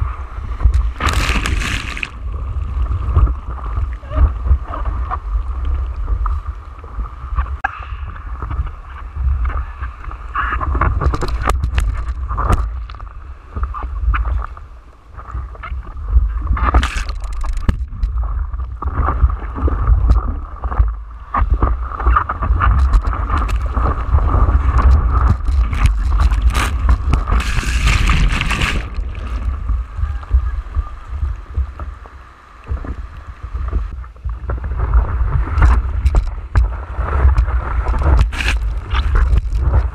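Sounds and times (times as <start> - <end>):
wind buffeting microphone: 0.0 - 14.5, 15.2 - 39.9
water splashing against surfboard: 0.0 - 39.9.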